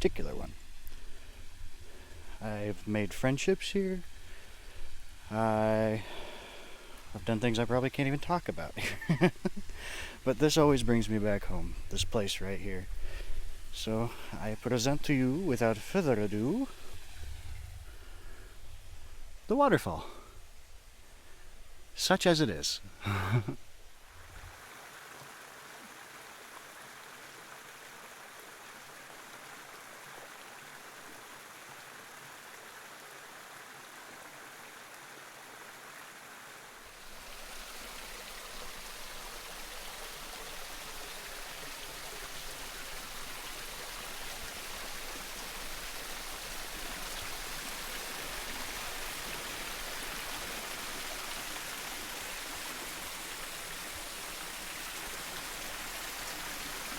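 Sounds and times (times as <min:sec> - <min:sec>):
waterfall splashing into creek: 0:00.0 - 0:56.9.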